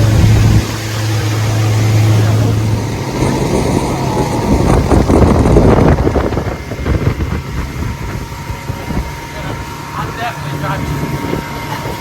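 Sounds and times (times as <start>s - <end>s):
vehicle rumbling and rattling: 0.0s - 12.0s.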